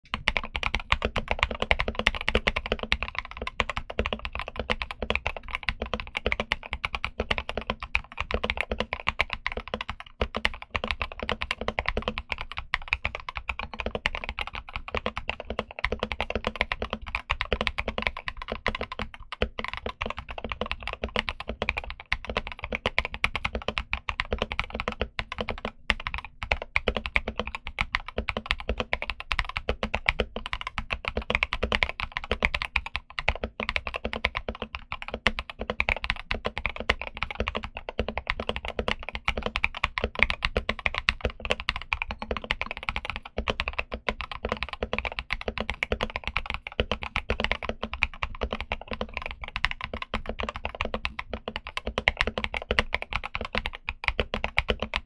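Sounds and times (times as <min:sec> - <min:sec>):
fast typing on mechanical keyboard: 0:00.1 - 0:55.0.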